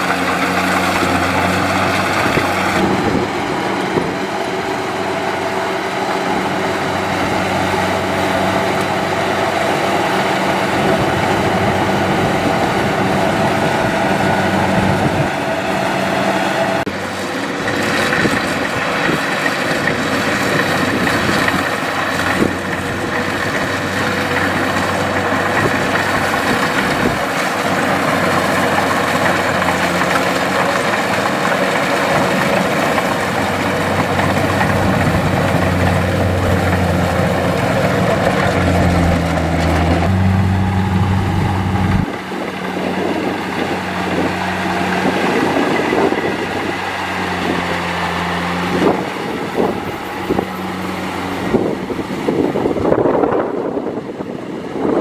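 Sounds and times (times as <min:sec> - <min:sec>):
combine harvester diesel engine: 0:00.0 - 0:55.0
harvesting machine engine clattering: 0:00.0 - 0:55.0.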